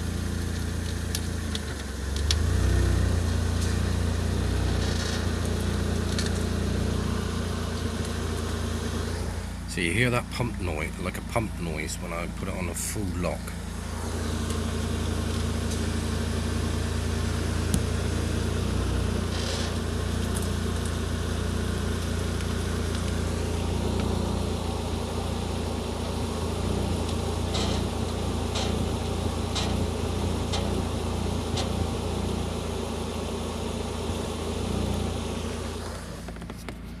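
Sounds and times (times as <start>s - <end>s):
car engine idling: 0.0s - 37.0s
power steering pump noise: 3.1s - 37.0s.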